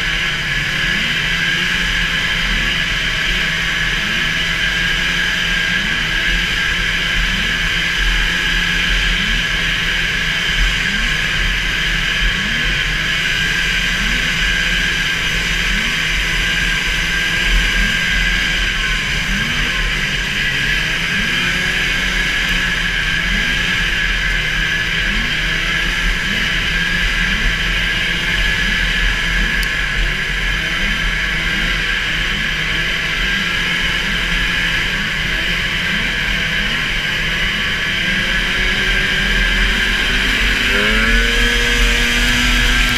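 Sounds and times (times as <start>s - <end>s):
snowmobile engine at high revs: 0.0s - 42.9s.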